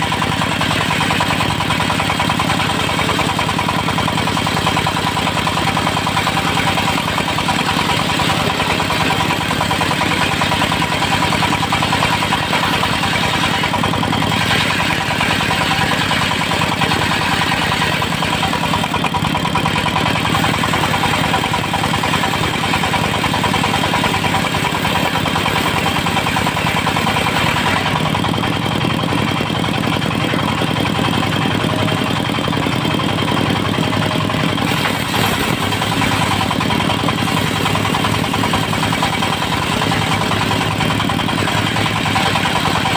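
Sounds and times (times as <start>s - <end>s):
saw blade cutting wood: 0.0s - 28.4s, 34.4s - 42.9s
diesel engine running: 0.0s - 42.9s.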